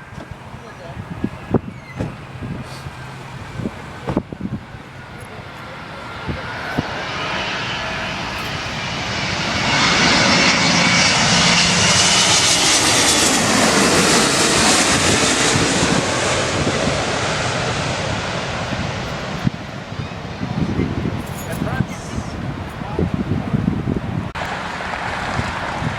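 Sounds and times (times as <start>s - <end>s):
airliner passing overhead: 0.0s - 25.9s.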